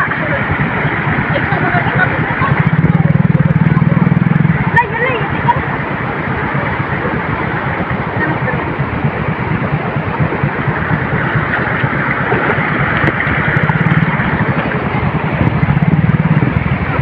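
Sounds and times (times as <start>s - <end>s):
motorcycle approaching: 0.0s - 17.0s
motorcycle engine idling: 0.0s - 17.0s
water running across road: 0.0s - 17.0s.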